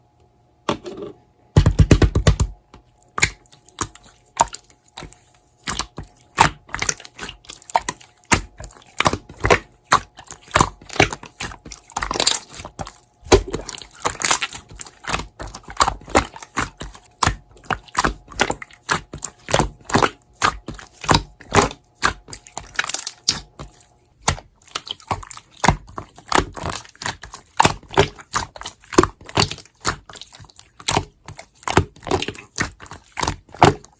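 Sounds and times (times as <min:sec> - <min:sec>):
slime squished by hand: 0:01.7 - 0:33.9.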